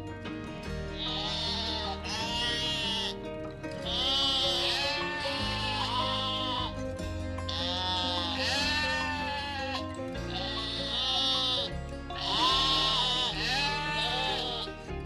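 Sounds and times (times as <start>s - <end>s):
background music: 0.0s - 15.0s
sheep or goat bleating: 1.0s - 3.2s, 3.8s - 6.8s, 7.4s - 14.8s.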